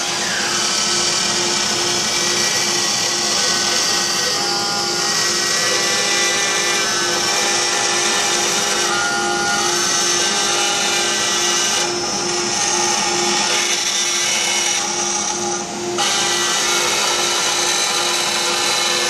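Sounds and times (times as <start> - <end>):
end mill cutting wood: 0.0 - 19.0
router spindle whine: 0.0 - 19.0.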